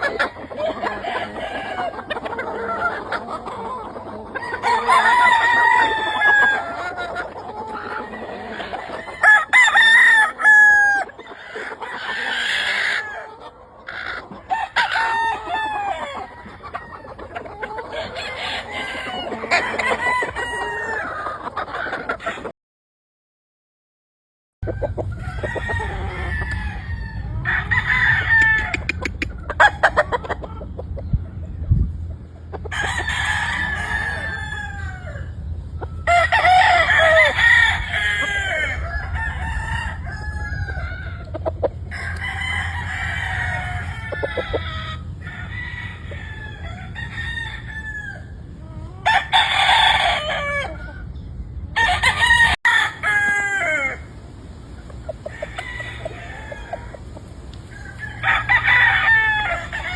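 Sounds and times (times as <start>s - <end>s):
roosters crowing: 0.0s - 22.5s, 24.6s - 30.6s, 32.2s - 59.9s
chickens clucking: 0.0s - 22.6s, 24.6s - 59.9s.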